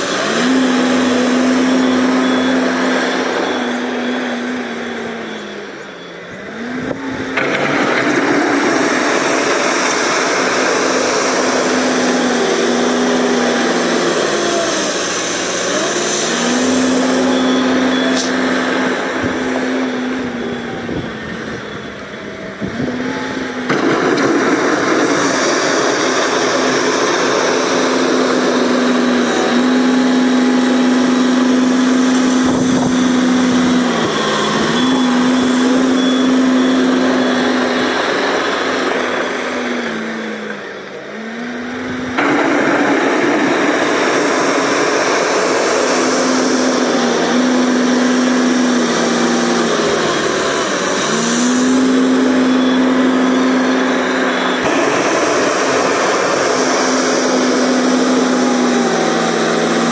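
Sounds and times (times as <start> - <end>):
wheel loader diesel engine running: 0.0 - 59.9.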